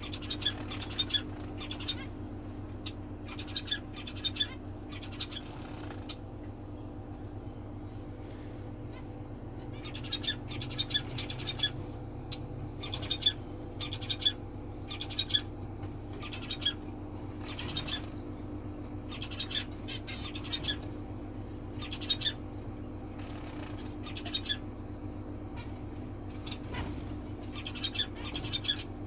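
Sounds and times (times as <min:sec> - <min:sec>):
wings fluttering: 0:00.0 - 0:06.3, 0:08.9 - 0:24.6, 0:25.5 - 0:28.9
finches chirping: 0:00.0 - 0:06.9, 0:08.8 - 0:22.5, 0:23.1 - 0:29.0
steady low hum: 0:00.0 - 0:29.0.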